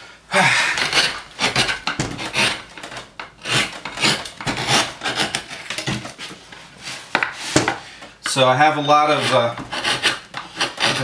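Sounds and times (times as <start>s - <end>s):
gouge scraping wood: 0.8s - 7.8s, 8.7s - 11.0s.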